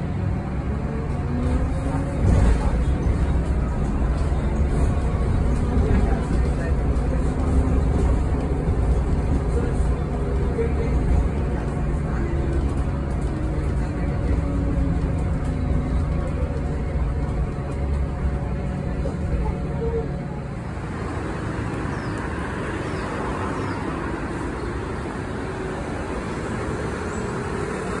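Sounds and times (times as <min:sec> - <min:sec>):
bus cabin hum: 0:00.0 - 0:28.0
rumble of bus and traffic: 0:00.0 - 0:28.0.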